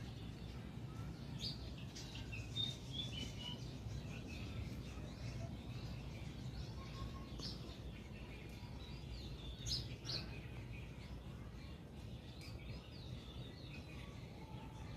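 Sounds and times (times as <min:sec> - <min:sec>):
sparrows chirping: 0:00.0 - 0:14.9.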